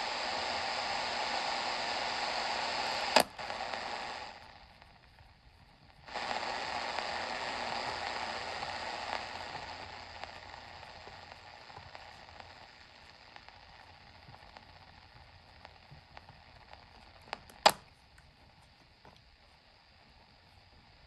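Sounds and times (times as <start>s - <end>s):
radio static hiss with crackles: 0.0s - 21.0s.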